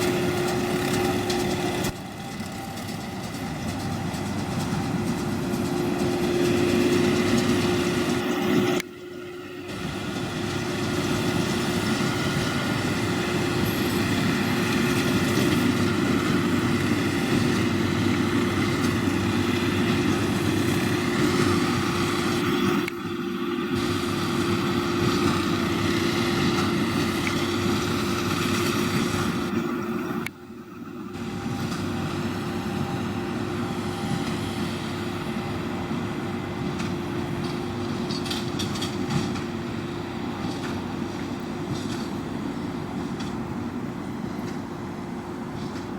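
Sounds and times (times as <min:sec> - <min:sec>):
baler machinery working: 0:00.0 - 0:45.9
tractor diesel engine running: 0:00.0 - 0:45.9.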